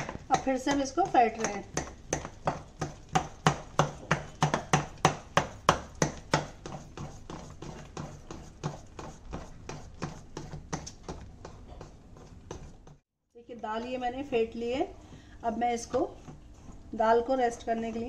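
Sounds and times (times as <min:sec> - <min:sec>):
hand slapping batter in steel bowl: 0:00.0 - 0:13.0, 0:15.6 - 0:17.8.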